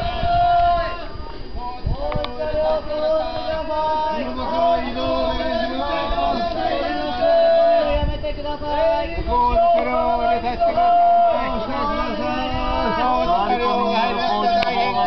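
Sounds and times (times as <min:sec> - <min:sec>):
voices chanting long held notes: 0:00.0 - 0:15.0.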